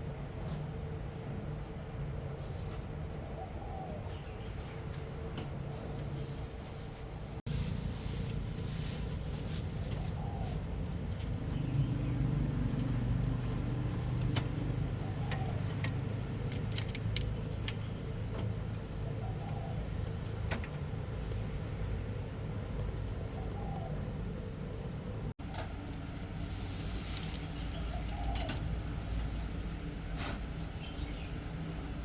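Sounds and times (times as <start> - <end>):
low mechanical drone: 0.0 - 32.0.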